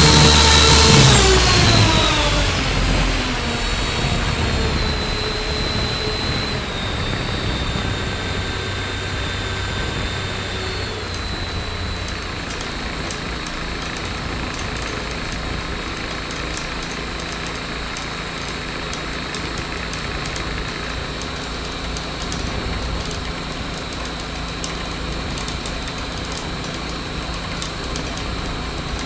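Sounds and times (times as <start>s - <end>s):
motor and propeller whirring: 0.0s - 29.0s.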